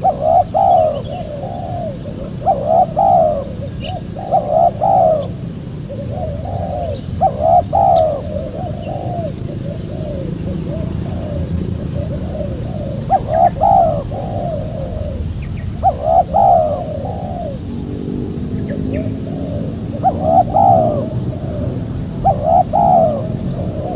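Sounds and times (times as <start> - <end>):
dove cooing: 0.0 - 23.9
steady low hum: 0.0 - 23.9.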